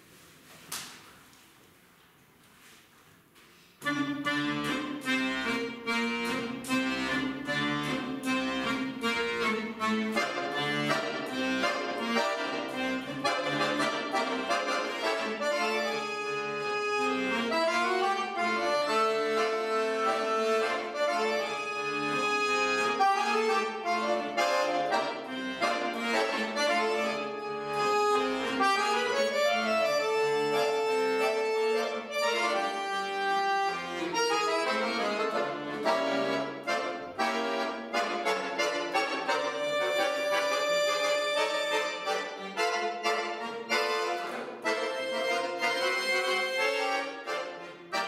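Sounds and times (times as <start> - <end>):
solo accordion playing: 3.8 - 48.0.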